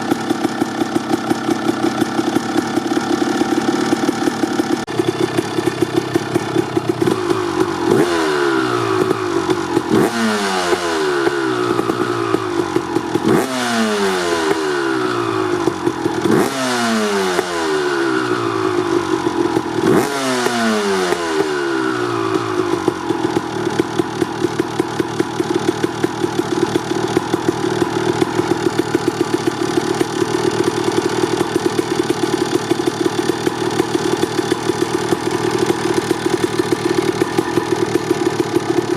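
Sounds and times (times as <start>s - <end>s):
dirt bike engine idling and revving: 0.0s - 38.9s.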